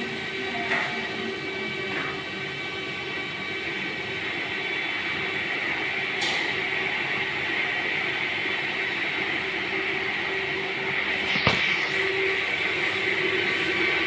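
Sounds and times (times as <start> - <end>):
gas burners and exhaust fan roaring: 0.0 - 14.0.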